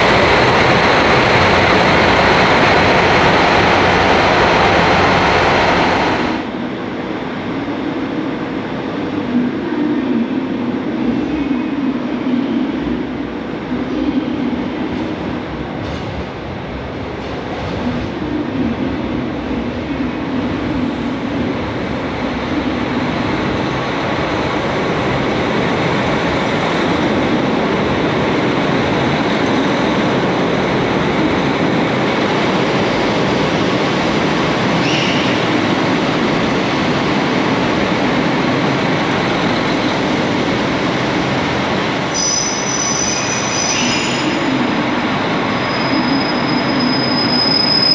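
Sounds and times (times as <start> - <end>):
diesel train running on rails: 0.0 - 47.9.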